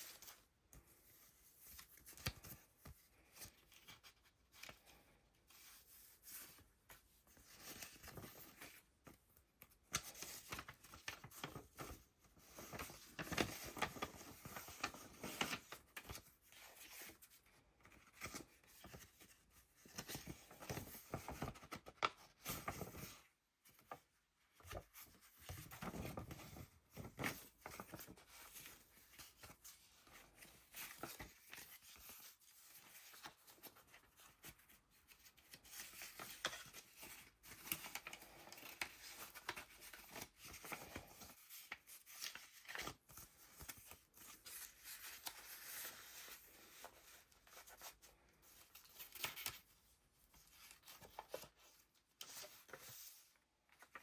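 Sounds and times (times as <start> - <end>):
paper pages rustling: 0.0 - 54.0.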